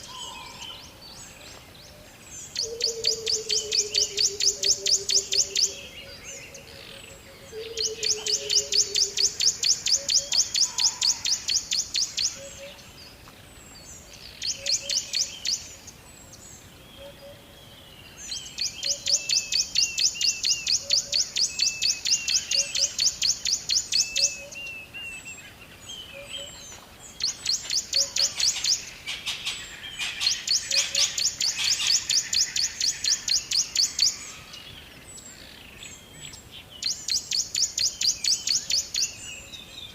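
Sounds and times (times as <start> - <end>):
birds chirping in trills: 0.0 - 39.9.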